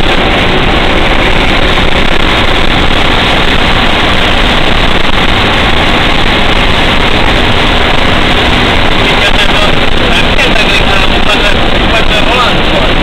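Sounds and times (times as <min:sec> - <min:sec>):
fire truck engine and road noise: 0:00.0 - 0:13.0.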